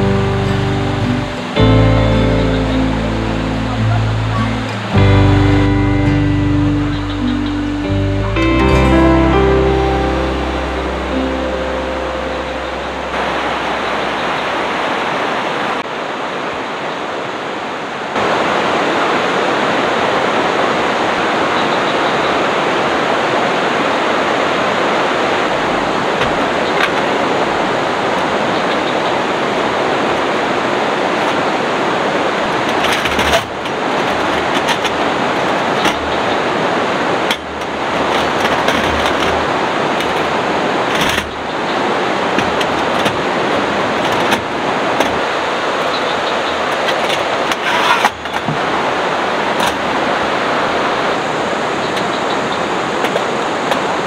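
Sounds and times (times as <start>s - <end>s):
river water over rocks: 0.0s - 54.0s.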